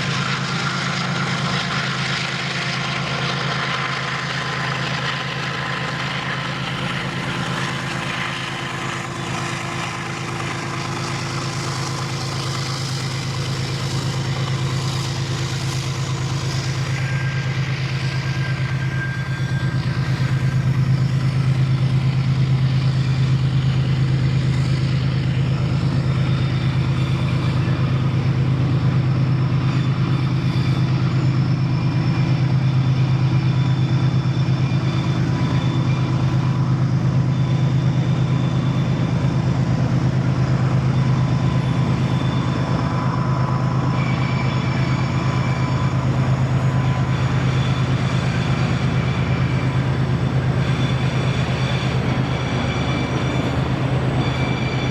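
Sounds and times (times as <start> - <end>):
locomotive engine droning: 0.0 - 54.9.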